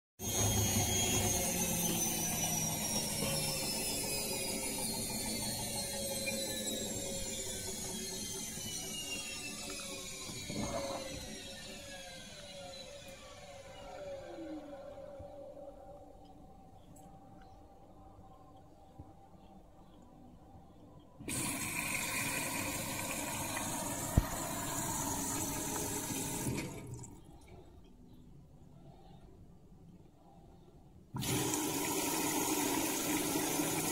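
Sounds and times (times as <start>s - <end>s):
washing machine spin whine: 0.2s - 33.9s.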